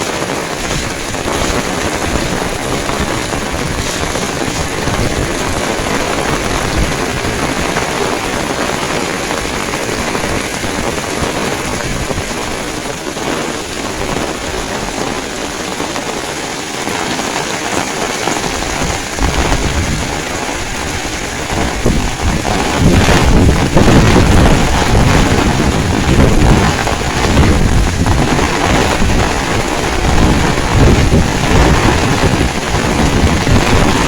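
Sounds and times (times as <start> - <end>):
heavy rain pouring: 0.0 - 34.0
wind buffeting microphone: 0.0 - 34.0.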